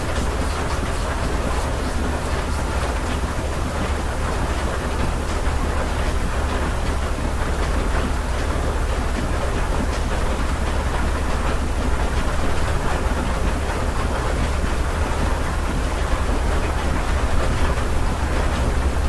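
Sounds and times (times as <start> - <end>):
steady rain patter: 0.0 - 19.0.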